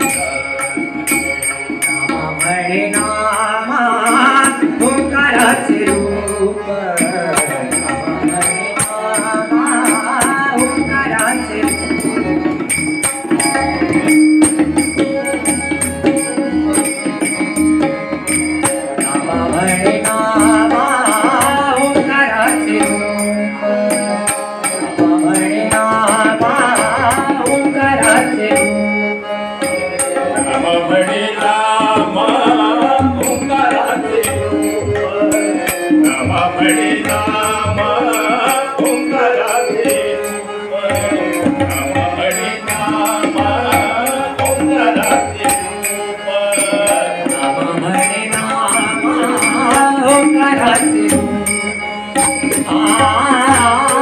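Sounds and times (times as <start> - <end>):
men singing: 0.0 - 12.5, 15.1 - 54.0
harmonium chords: 0.0 - 54.0
tabla: 0.0 - 54.0.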